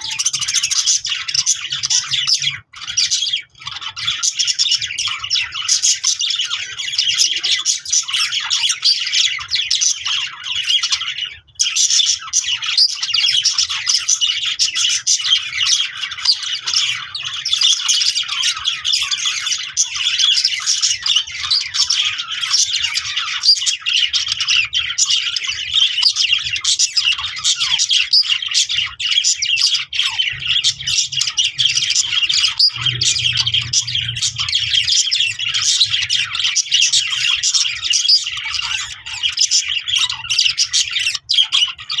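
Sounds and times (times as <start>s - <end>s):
budgerigar chirps and warbles: 0.0s - 42.0s.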